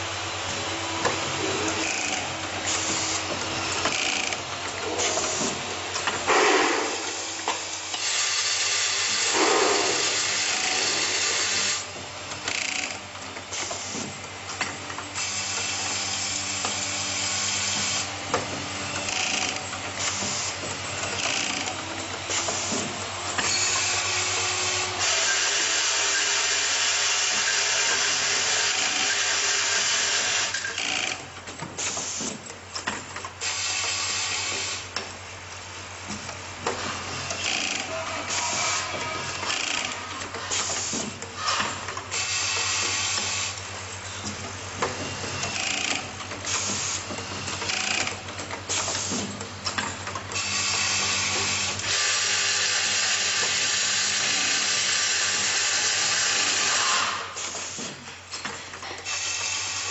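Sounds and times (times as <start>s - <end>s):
pneumatic hiss: 0.9s - 32.5s, 33.4s - 35.0s, 36.6s - 59.9s.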